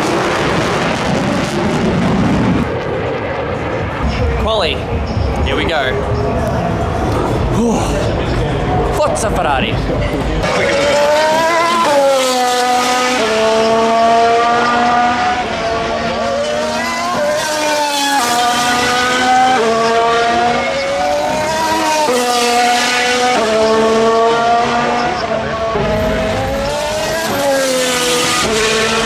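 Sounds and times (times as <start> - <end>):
race car engines at high revs: 0.0 - 29.0.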